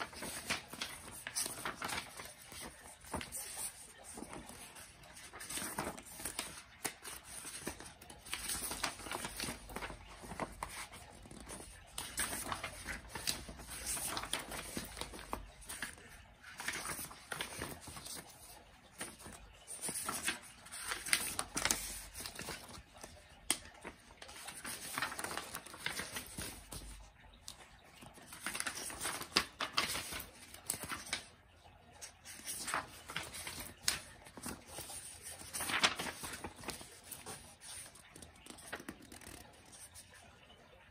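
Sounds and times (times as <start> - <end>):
paper rustling and crinkling: 0.0 - 40.8.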